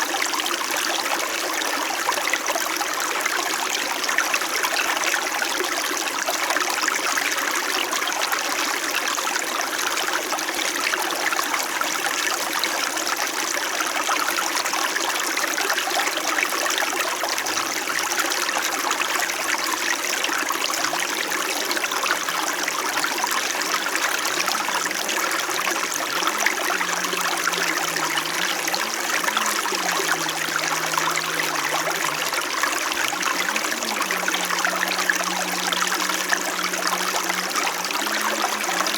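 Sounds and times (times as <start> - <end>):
creek water trickling: 0.0 - 38.9.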